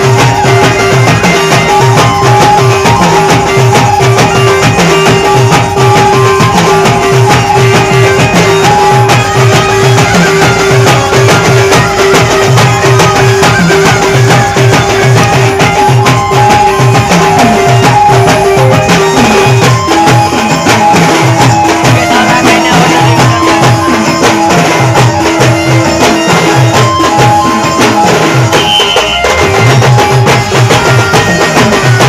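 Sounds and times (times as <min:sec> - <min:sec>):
band playing folk dance tune: 0:00.0 - 0:32.0
fast drum strokes: 0:00.0 - 0:32.0.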